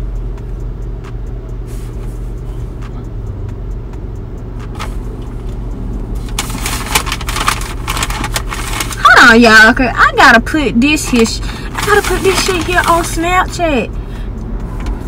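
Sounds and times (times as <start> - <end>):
car idling with air conditioning hum: 0.0 - 15.0.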